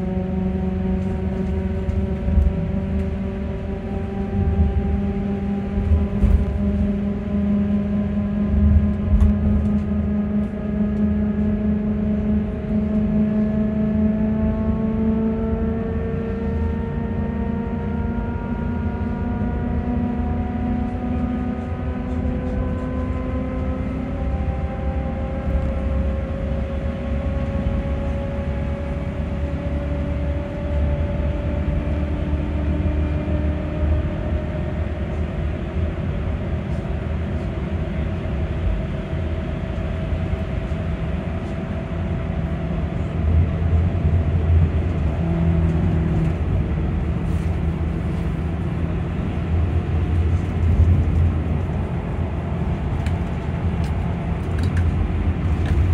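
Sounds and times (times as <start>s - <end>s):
electric bus motor whining: 0.0s - 13.7s, 15.8s - 55.9s
road and tyre rumble: 0.0s - 55.9s.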